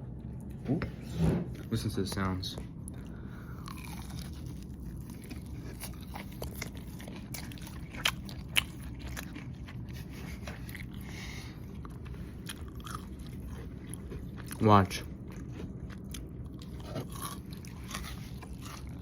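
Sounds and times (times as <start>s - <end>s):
steady low hum: 0.0s - 19.0s
chewing crunchy fried food: 1.6s - 19.0s.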